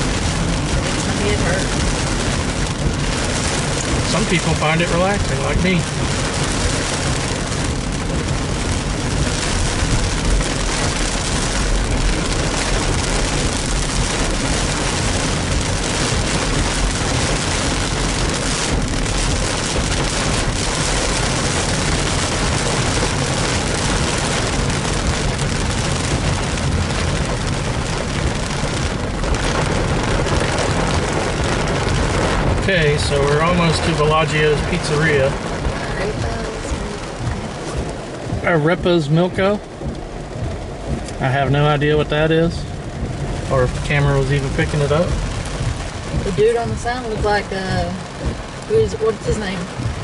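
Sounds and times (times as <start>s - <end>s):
heavy rain on car roof: 0.0s - 50.0s.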